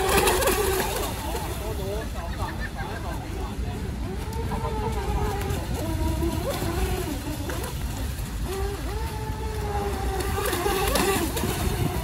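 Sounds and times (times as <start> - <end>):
model boat motor whining: 0.0 - 12.0.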